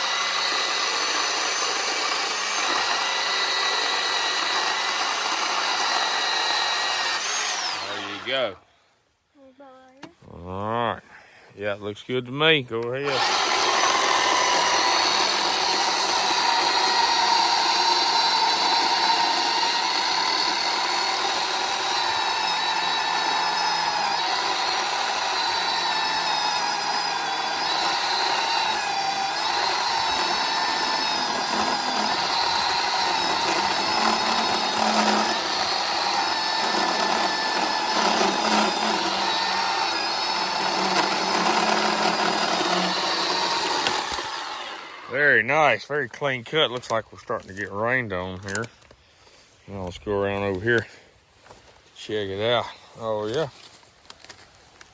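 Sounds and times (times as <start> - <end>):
chainsaw cutting log: 0.0 - 8.6, 12.8 - 45.5, 46.1 - 48.8.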